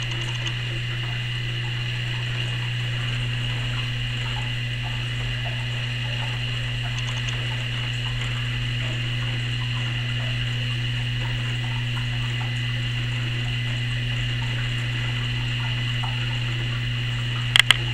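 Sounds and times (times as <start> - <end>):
pumps humming: 0.0 - 17.9.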